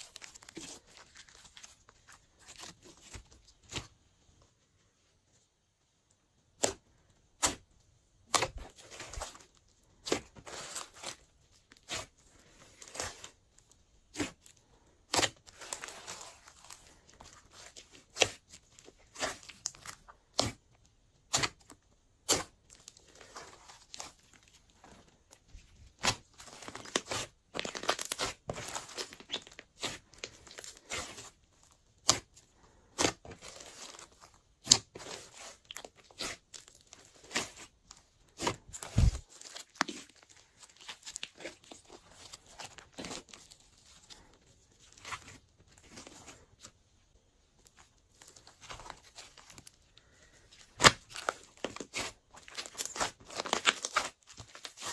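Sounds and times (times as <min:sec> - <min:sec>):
slime squelching and crackling: 0:00.0 - 0:04.0, 0:06.5 - 0:54.9.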